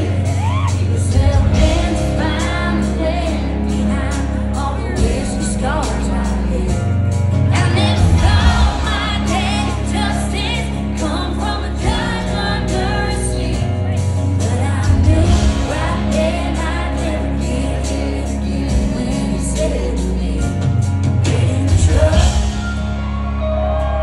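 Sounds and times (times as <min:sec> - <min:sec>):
sung vocals: 0:00.0 - 0:23.7
live band playing country-rock: 0:00.0 - 0:24.0
sustained bass notes: 0:00.0 - 0:24.0.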